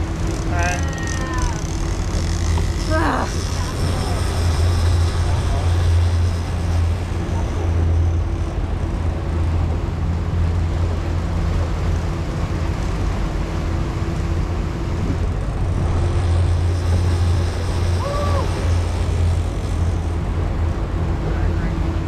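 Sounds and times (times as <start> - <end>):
outboard engines droning: 0.0 - 22.0
wind and water rushing: 0.0 - 22.0.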